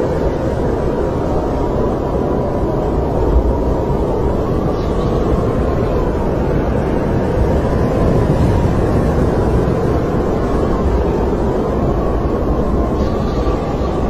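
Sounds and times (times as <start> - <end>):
snowstorm wind blowing: 0.0 - 14.0.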